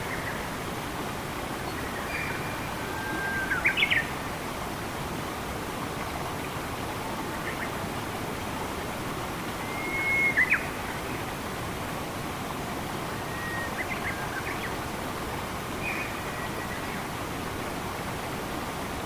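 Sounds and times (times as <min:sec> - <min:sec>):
flowing water: 0:00.0 - 0:19.0.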